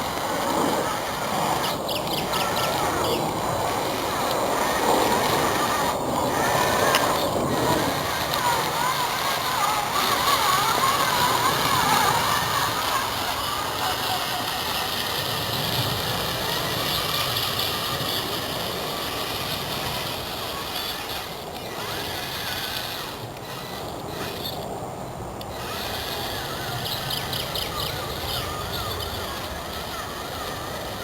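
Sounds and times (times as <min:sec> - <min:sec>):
toy truck electric motor whining: 0:00.0 - 0:31.0.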